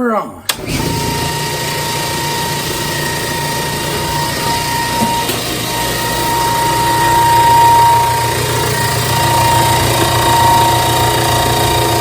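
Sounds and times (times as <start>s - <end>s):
air compressor running: 0.5s - 12.0s
constant whine over low hum: 0.9s - 12.0s.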